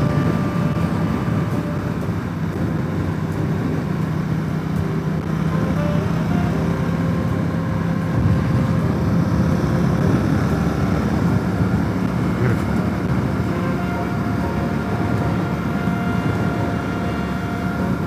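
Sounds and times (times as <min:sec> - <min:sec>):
motorcycle engine cruising: 0:00.0 - 0:18.0.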